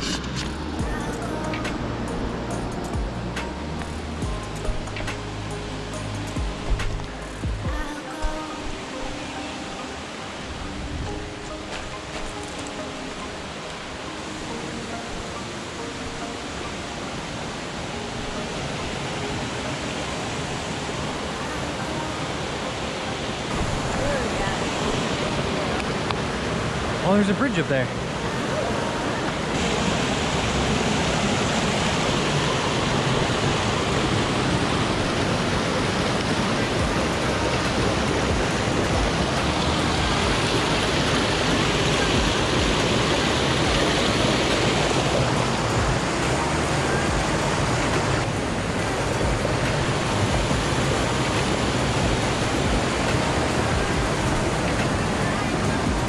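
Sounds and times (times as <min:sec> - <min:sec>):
stream rushing over boulders: 0:00.0 - 0:56.0.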